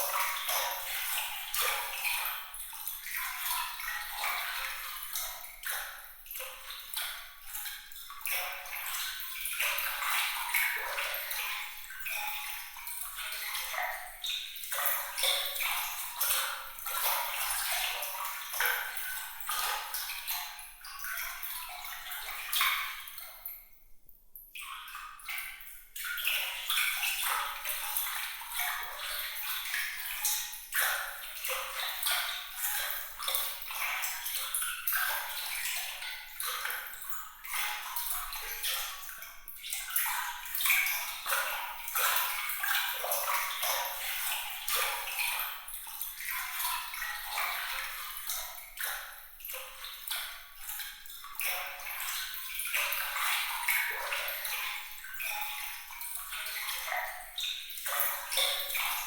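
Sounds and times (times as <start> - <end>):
water trickling and bubbling: 0.0 - 23.6, 24.6 - 59.0.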